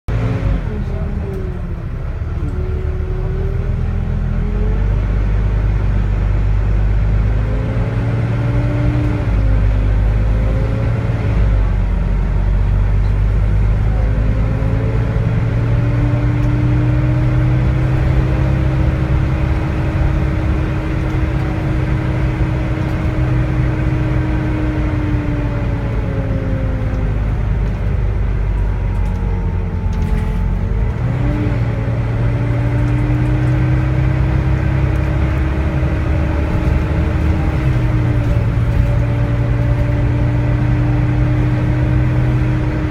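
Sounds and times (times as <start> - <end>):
bus diesel engine rumbling: 0.0 - 42.9
high engine whine: 0.1 - 42.9.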